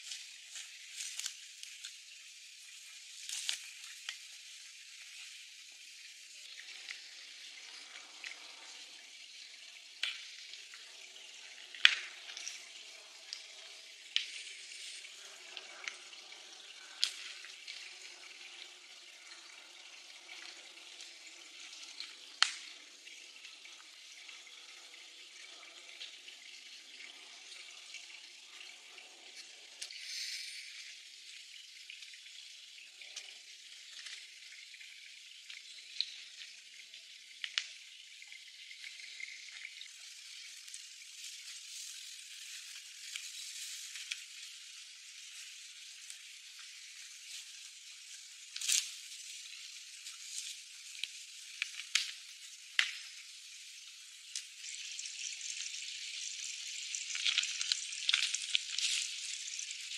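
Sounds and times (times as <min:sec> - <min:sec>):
wet woodland ambience hiss: 0:00.0 - 0:59.9.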